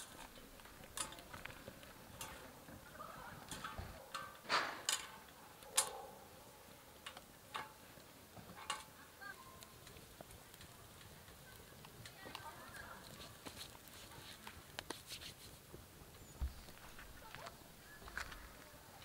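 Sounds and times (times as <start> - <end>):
twigs crackling and popping in stove: 0.0 - 19.0.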